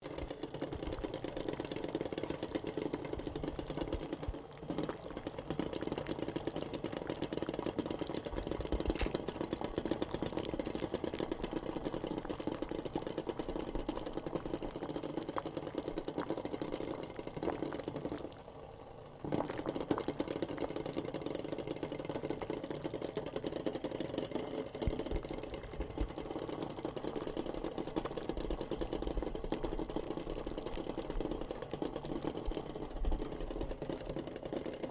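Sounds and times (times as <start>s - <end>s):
eggs rattling in boiling pot: 0.0s - 34.9s.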